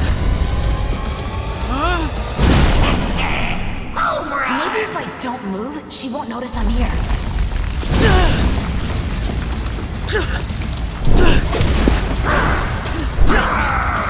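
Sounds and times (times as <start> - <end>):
heavy booming impacts: 0.0 - 4.5, 6.6 - 14.0.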